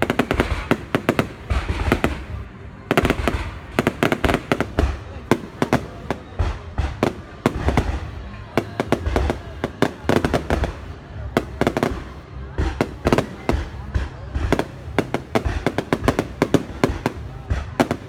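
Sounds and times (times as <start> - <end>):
deep fireworks booms: 0.0 - 18.0
fireworks bangs and crackles: 0.0 - 18.0.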